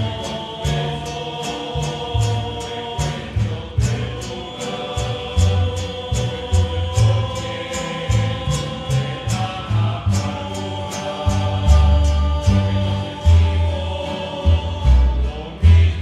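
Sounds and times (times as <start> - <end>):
bass line: 0.0 - 16.0
strummed guitars: 0.0 - 16.0
voices singing harmonised tones: 0.0 - 16.0.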